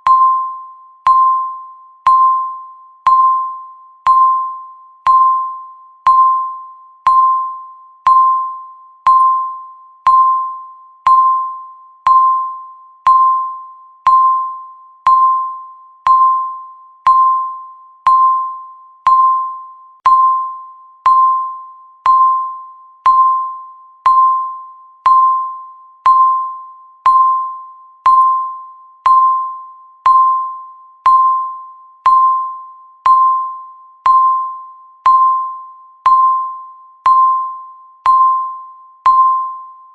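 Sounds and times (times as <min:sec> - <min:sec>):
timer beeps: 0:00.0 - 0:39.9.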